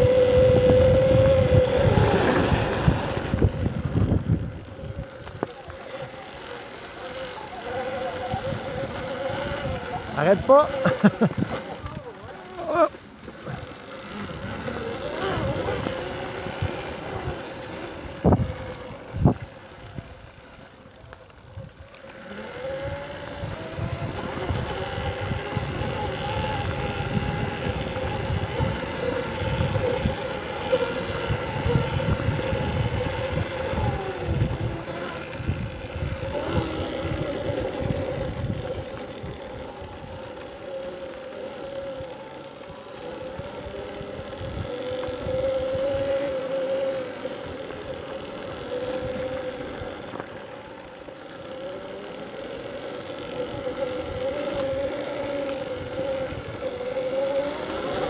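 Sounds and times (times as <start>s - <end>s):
electric motor whine: 0.0s - 58.0s.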